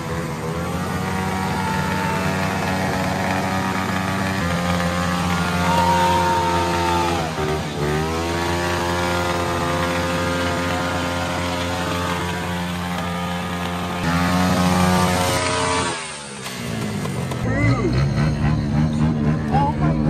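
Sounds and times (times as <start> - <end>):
mini bike engine revving: 0.0 - 20.0.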